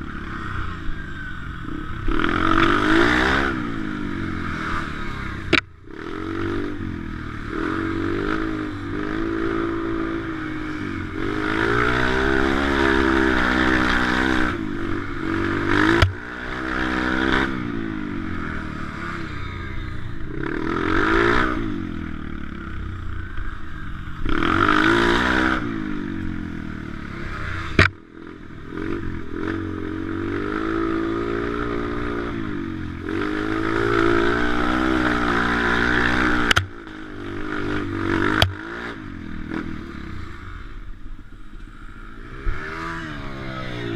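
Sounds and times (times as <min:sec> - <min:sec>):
pit bike engine revving: 0:00.0 - 0:41.0, 0:41.6 - 0:43.9.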